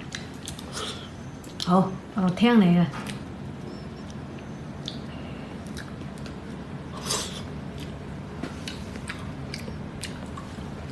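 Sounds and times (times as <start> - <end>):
low room hum: 0.0 - 10.9.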